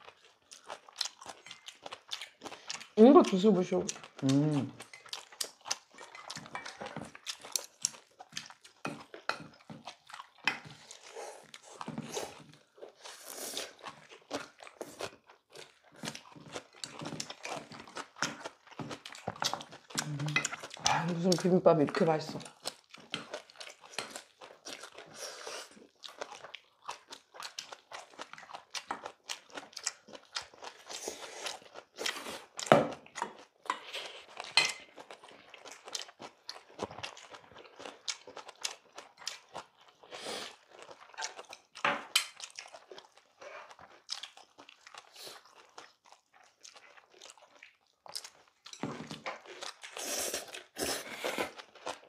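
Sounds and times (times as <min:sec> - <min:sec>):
people chewing crunchy food: 0:00.0 - 0:52.0.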